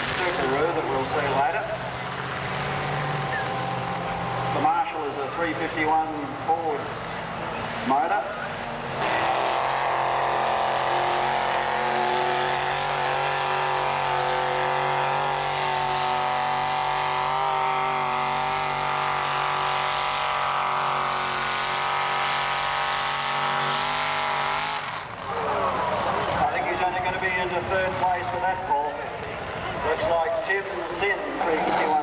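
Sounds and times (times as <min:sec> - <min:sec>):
tractor engine at high revs: 0:00.0 - 0:32.0.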